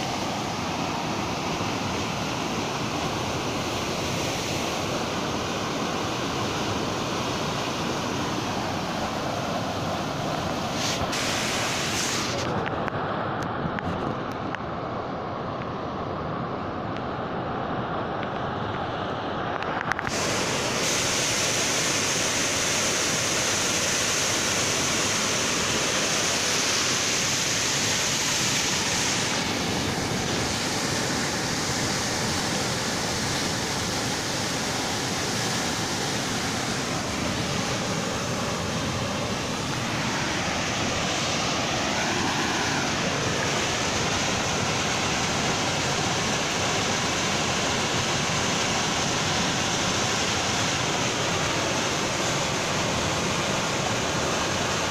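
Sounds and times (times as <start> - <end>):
flooded river rushing: 0.0 - 54.9.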